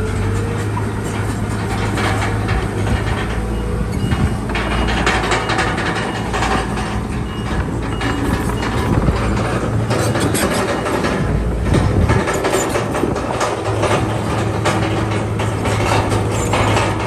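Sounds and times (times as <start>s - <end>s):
crawler tracks clanking: 0.0s - 17.0s
diesel engine hum: 0.0s - 17.0s.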